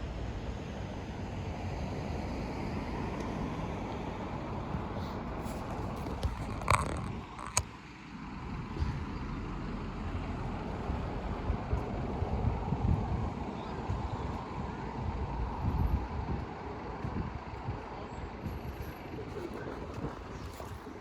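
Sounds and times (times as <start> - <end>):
low rumble of vehicles: 0.0 - 21.0.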